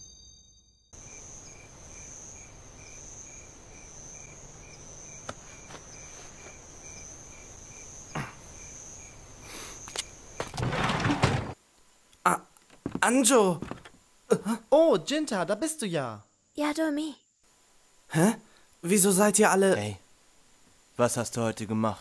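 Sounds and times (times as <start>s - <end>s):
insect steady high trill: 0.0s - 10.6s, 12.3s - 22.0s
insect chirping rapidly: 0.0s - 11.6s, 12.2s - 21.4s.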